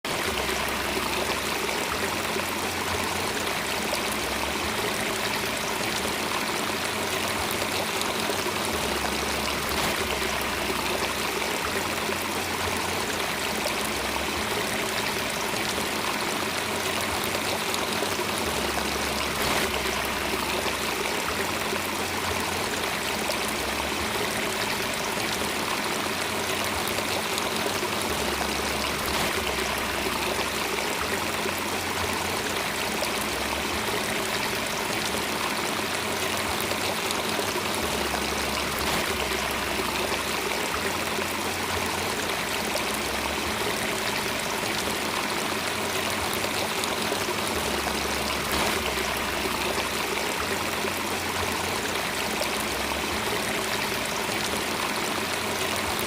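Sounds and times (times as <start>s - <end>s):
stream flowing and trickling: 0.0s - 56.0s.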